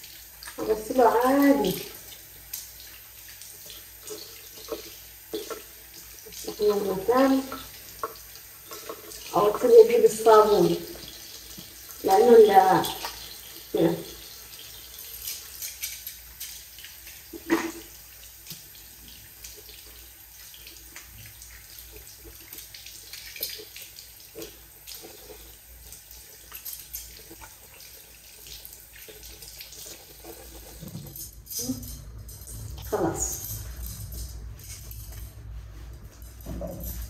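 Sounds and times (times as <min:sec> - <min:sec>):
tap running thin stream: 0:00.0 - 0:31.3.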